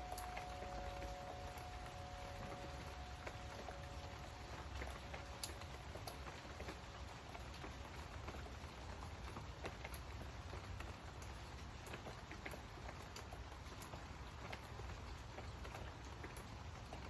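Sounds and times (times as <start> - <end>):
rain hiss: 0.0 - 17.0
raindrops ticking: 0.0 - 17.0.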